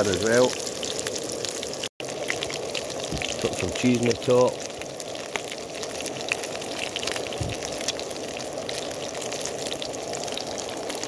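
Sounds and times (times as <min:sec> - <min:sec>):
burgers sizzling in frying pan: 0:00.0 - 0:11.0
small crackles: 0:00.3 - 0:11.0.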